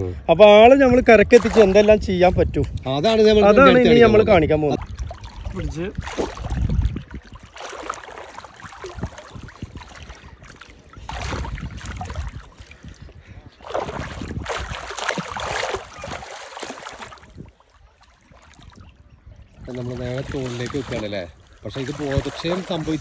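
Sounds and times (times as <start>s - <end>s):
water splashing and sloshing: 1.0s - 23.0s.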